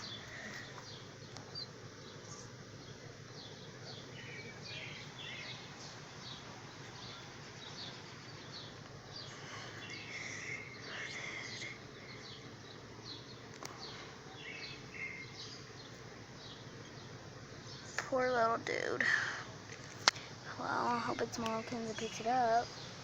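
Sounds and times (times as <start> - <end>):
birds chirping: 0.0 - 23.0
low background noise: 0.0 - 23.0.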